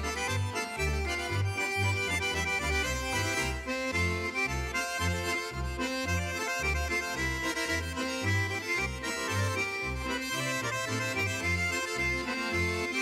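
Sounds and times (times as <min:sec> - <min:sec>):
button accordions playing: 0:00.0 - 0:13.0
plucked double bass: 0:00.0 - 0:13.0.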